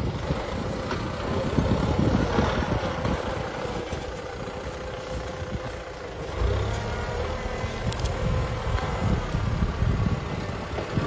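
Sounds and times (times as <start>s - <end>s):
low uneven rumble: 0.0s - 11.0s
tractor diesel engine under load: 0.0s - 11.0s.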